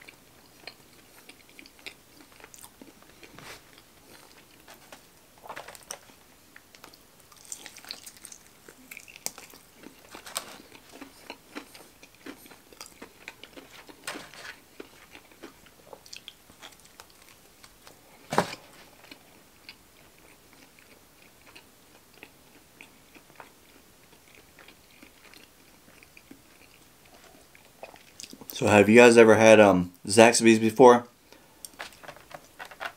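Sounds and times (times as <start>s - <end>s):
crunchy food chewing: 0.0s - 28.6s.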